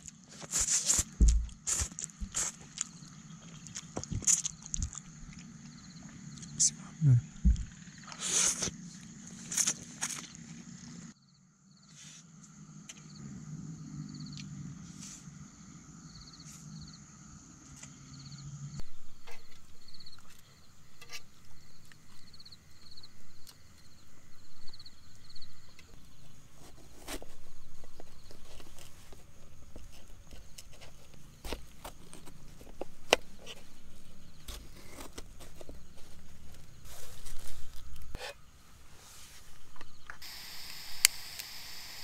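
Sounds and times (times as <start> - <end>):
insects chirping in trills: 0.8 - 42.0.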